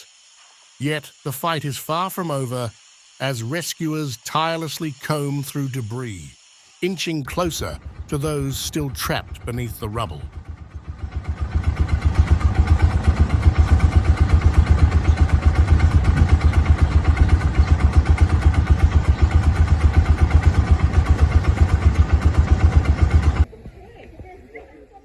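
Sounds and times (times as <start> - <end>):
engine running: 0.0 - 23.5.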